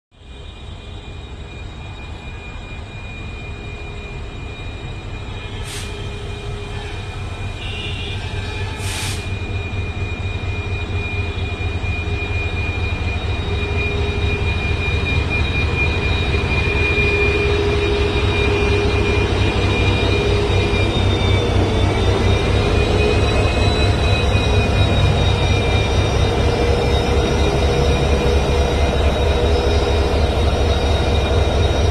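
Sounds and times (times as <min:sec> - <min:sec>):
locomotive engine drone: 0:00.2 - 0:31.9.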